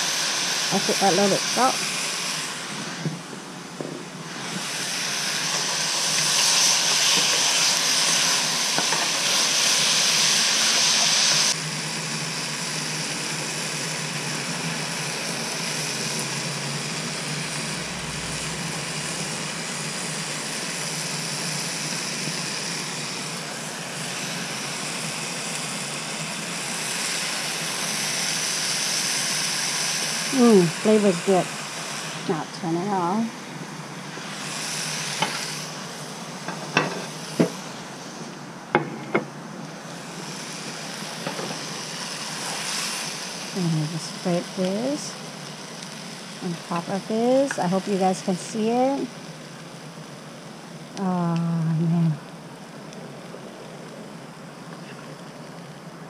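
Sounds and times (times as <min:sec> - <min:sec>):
fish frying in oil: 0:00.0 - 0:38.6, 0:39.4 - 0:55.9
gas burners hissing: 0:00.0 - 0:56.0.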